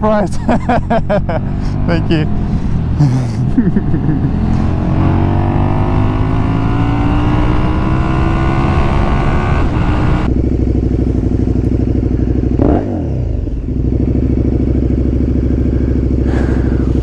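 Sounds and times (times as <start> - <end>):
motorcycle engine: 0.0 - 17.0.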